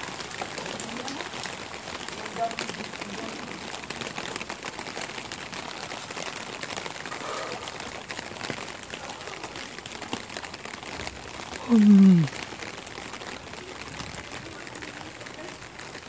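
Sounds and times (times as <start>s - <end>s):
footsteps on wet pavement: 0.0s - 16.0s
rain pattering on plastic umbrella: 0.0s - 16.0s.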